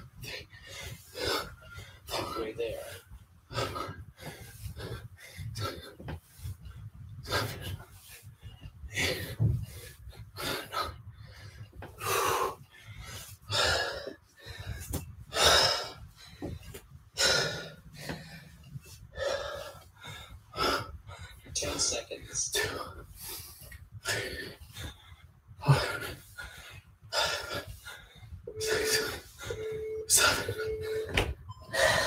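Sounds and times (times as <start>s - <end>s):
man breathing hard: 0.2s - 21.6s, 22.9s - 32.0s.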